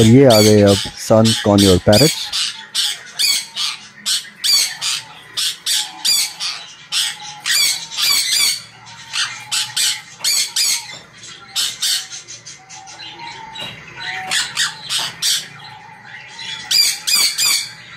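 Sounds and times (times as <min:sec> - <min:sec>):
parrots screeching: 0:00.0 - 0:17.9.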